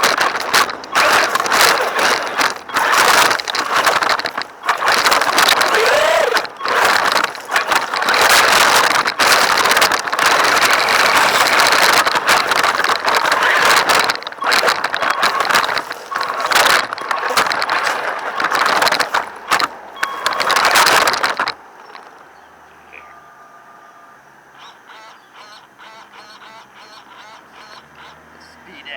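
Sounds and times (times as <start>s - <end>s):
radio-controlled car driving: 0.0s - 22.3s, 24.6s - 28.9s.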